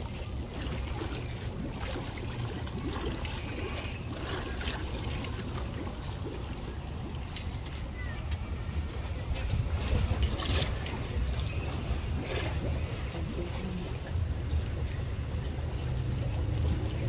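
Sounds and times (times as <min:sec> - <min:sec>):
steady low rumble: 0:00.0 - 0:17.0
water splashing and trickling: 0:00.0 - 0:17.0.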